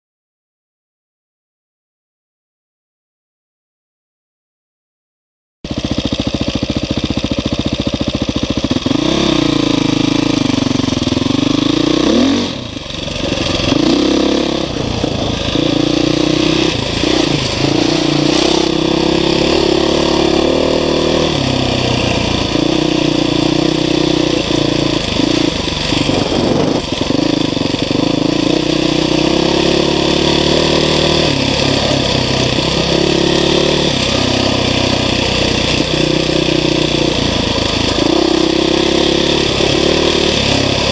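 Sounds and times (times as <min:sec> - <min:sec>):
motorcycle engine revving: 0:05.7 - 0:40.9.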